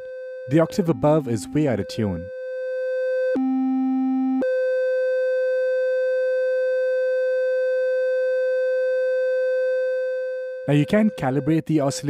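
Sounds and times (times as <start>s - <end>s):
oscillator sine tone: 0.0s - 12.0s.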